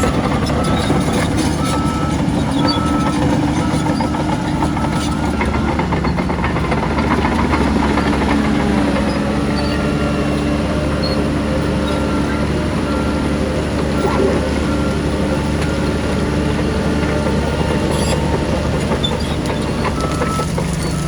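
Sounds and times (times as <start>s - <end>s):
reversing alarm beeping: 0.0s - 6.3s, 7.1s - 21.0s
diesel earthmoving machinery running: 0.0s - 21.0s.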